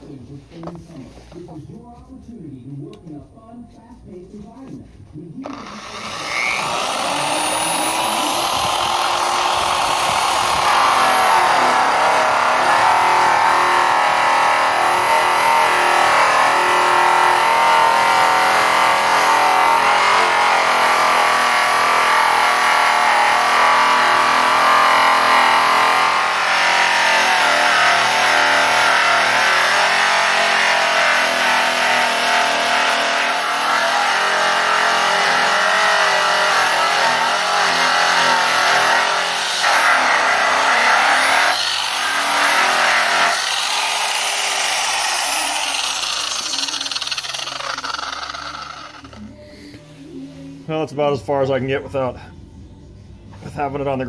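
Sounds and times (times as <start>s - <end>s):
angle grinder whine: 5.4s - 49.3s.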